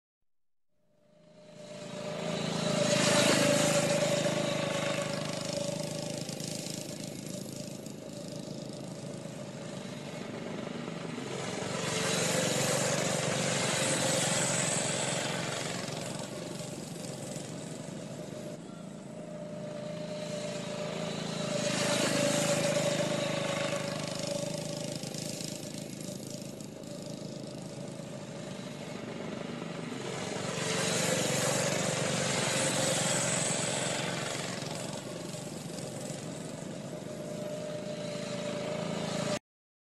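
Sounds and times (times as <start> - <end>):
go-kart engines passing: 1.1 - 39.4.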